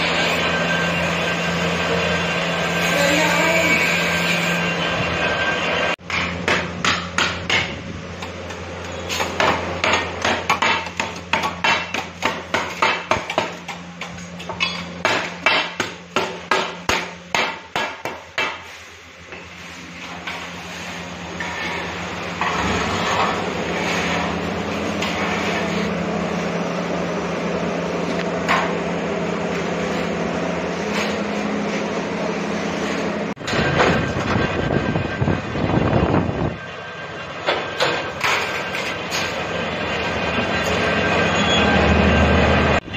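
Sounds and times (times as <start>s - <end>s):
machine hum: 0.0s - 17.8s, 19.0s - 42.9s.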